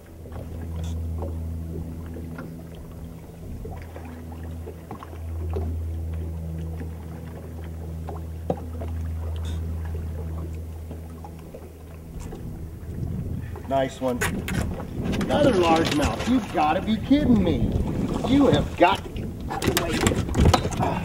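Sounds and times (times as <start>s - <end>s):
electric trolling motor humming: 0.0s - 21.0s
light clicks and knocks from boat: 0.0s - 21.0s.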